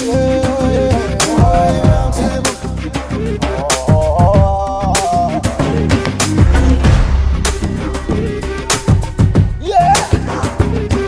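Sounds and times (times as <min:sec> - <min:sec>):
music with heavy bass and drums: 0:00.0 - 0:11.0.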